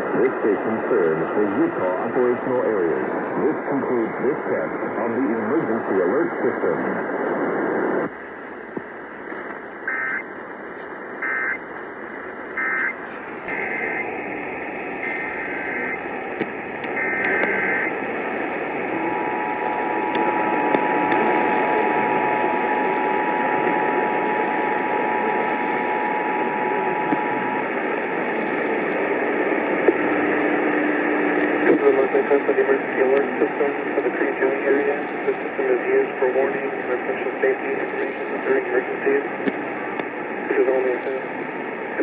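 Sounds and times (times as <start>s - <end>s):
radio signal hiss: 0.0s - 42.0s.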